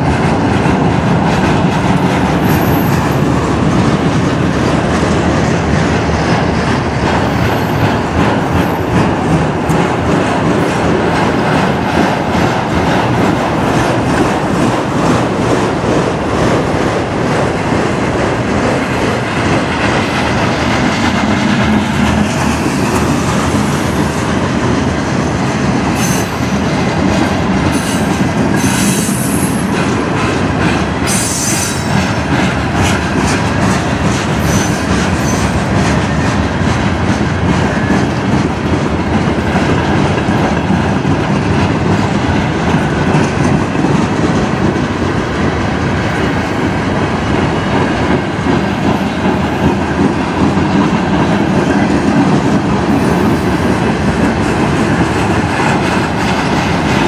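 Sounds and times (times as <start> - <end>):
train wheels clacking on rails: 0.0 - 57.0.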